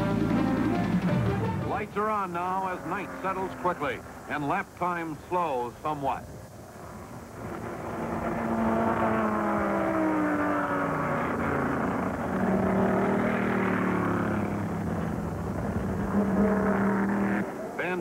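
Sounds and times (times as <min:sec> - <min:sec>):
racing car engines passing: 0:00.0 - 0:05.8, 0:06.6 - 0:18.0.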